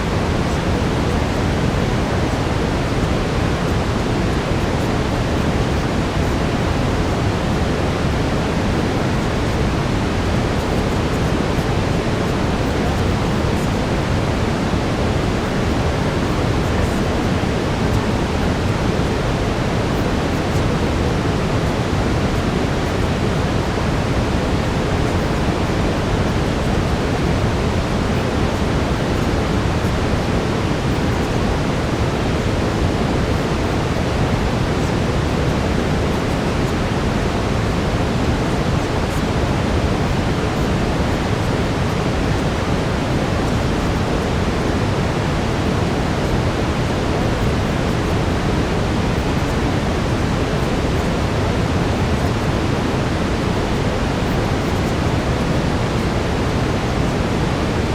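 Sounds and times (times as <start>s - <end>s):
brown noise hiss: 0.0s - 57.9s.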